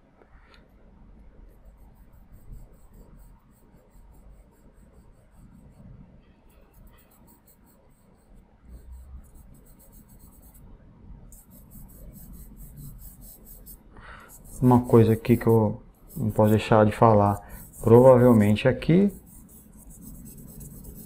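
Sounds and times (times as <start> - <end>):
charcoal pencil scratching on paper: 1.4 - 10.7, 11.3 - 21.0.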